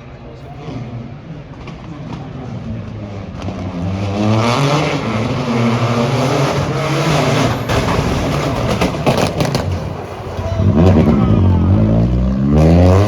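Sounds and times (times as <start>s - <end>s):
rally car engine revving: 0.5s - 13.0s.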